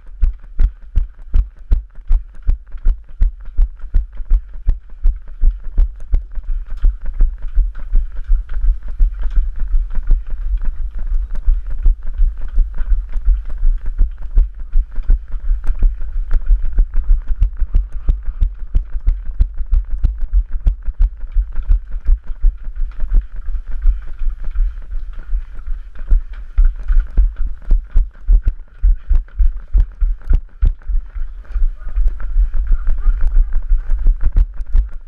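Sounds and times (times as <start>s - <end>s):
running footsteps on stone: 0.0s - 35.0s.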